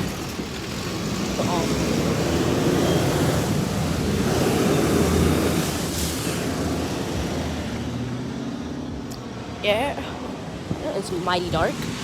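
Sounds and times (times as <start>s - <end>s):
bus driving past: 0.0s - 10.8s.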